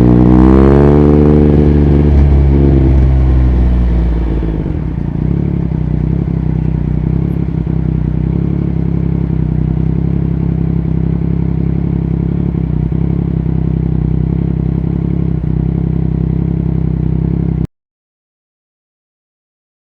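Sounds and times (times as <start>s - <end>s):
motorcycle engine idling: 1.0s - 17.7s.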